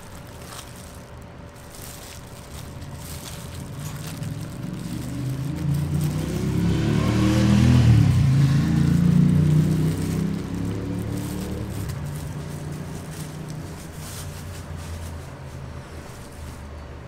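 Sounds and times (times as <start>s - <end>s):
vehicle engine passing by: 2.8s - 17.0s.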